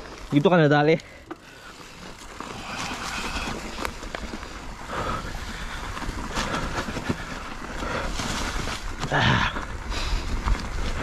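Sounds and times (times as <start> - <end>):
bike rattling and clicking: 0.0 - 11.0
tyres crunching over stones: 0.0 - 11.0.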